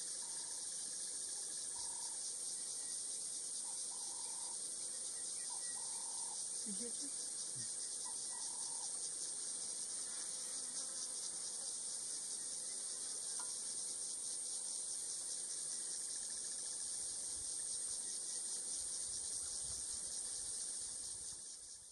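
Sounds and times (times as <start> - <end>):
insects trilling: 0.0 - 21.9.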